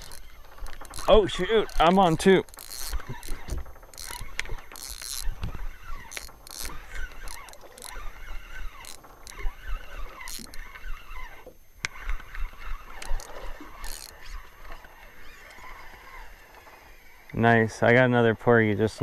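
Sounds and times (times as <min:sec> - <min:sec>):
fishing reel whirring and squeaking: 0:00.0 - 0:19.0.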